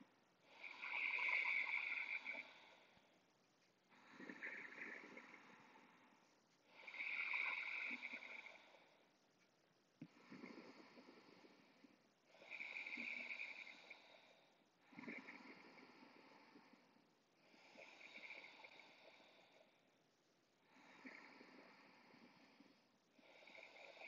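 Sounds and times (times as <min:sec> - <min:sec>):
faint slow breathing: 0:00.0 - 0:24.0.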